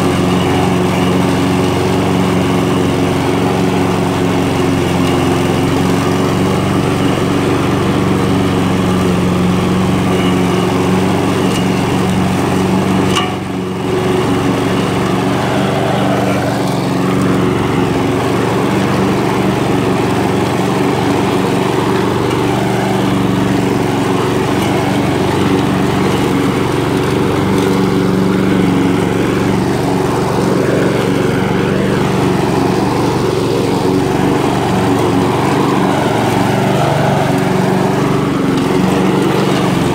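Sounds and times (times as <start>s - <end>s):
lawn mower engine cutting grass: 0.0s - 39.9s.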